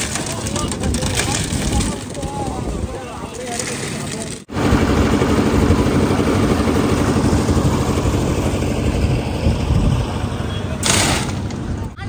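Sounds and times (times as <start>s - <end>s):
concrete mixer running: 0.0s - 12.0s.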